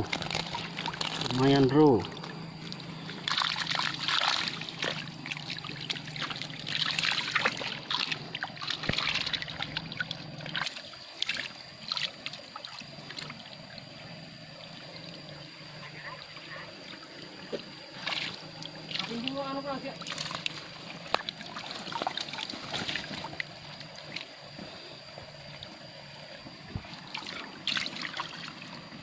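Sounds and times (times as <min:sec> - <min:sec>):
water splashing and trickling: 0:00.0 - 0:29.0.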